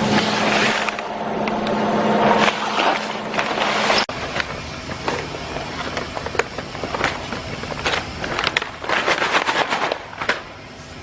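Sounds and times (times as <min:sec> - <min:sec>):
packing machine running: 0:00.0 - 0:11.0.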